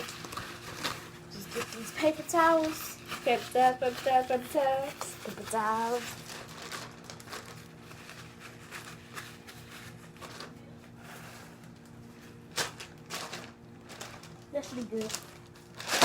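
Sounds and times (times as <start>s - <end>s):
paper towels tearing and crumpling: 0.0s - 16.0s.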